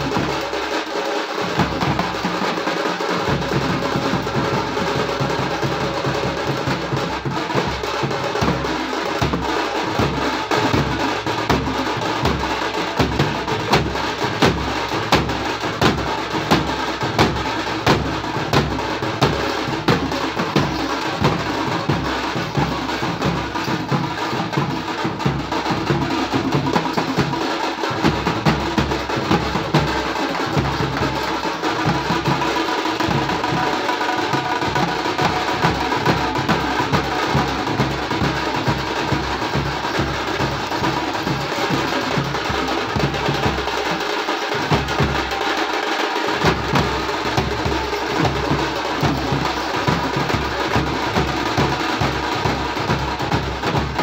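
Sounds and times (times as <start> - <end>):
frame drums struck with sticks: 0.0 - 54.0.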